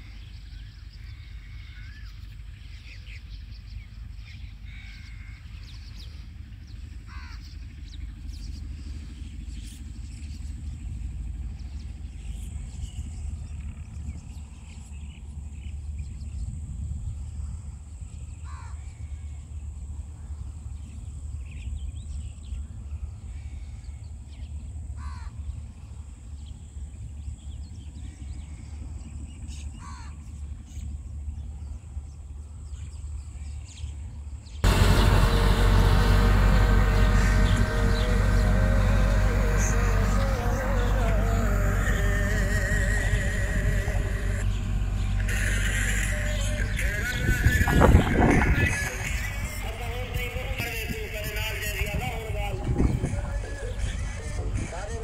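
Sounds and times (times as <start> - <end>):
distant tractor engine rumble: 0.0 - 33.5, 34.6 - 55.0.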